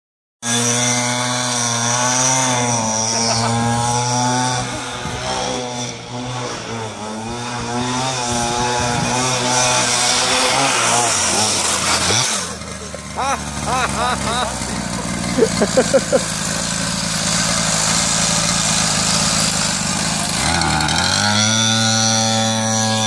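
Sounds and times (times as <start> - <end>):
small two-stroke engine revving: 0.4 - 23.0.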